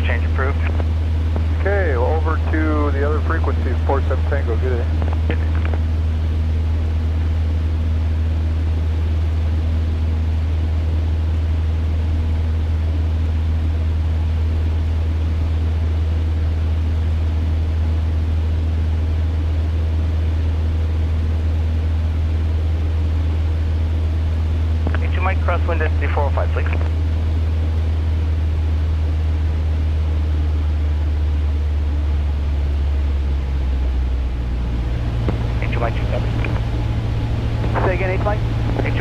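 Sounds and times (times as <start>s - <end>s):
light aircraft engine droning: 0.0s - 39.0s.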